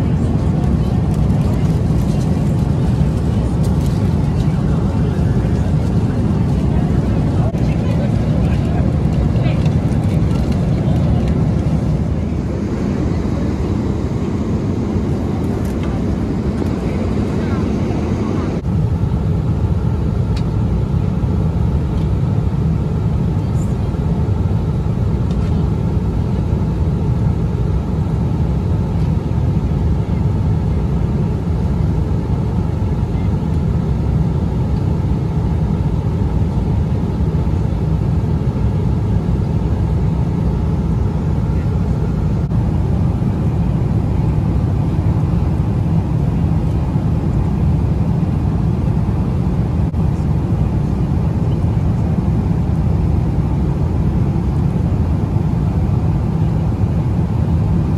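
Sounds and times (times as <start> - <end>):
airliner cabin roar: 0.0 - 57.9.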